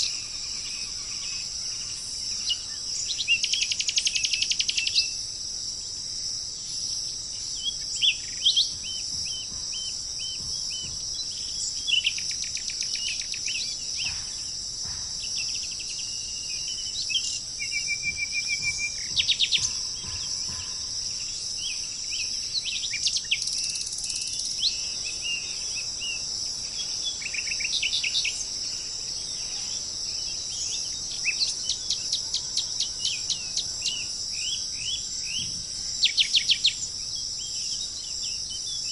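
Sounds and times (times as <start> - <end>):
birds chirping and trilling: 6.6 - 38.9.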